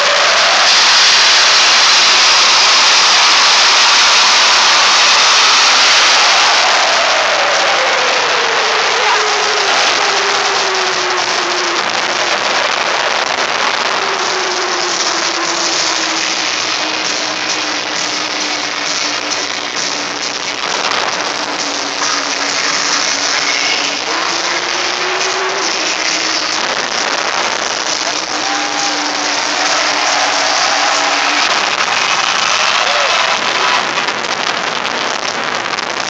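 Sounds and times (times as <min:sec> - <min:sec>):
jet engine roaring with whine: 0:00.0 - 0:34.2.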